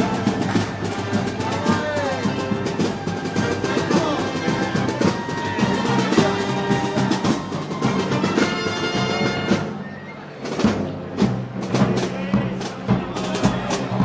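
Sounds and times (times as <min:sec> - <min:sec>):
drum beats: 0:00.0 - 0:09.8, 0:10.4 - 0:14.0
festival band music: 0:00.0 - 0:14.0.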